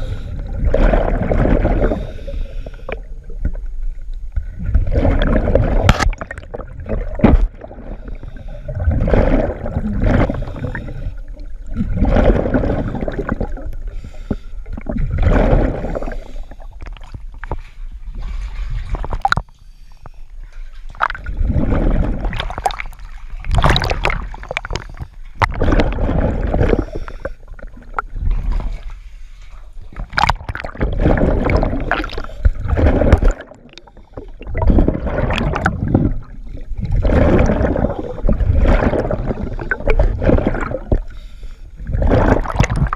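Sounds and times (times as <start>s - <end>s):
diver exhaling bubbles underwater: 0.0s - 3.6s, 4.5s - 14.0s, 14.6s - 17.1s, 20.9s - 28.8s, 29.9s - 41.2s, 41.8s - 42.9s.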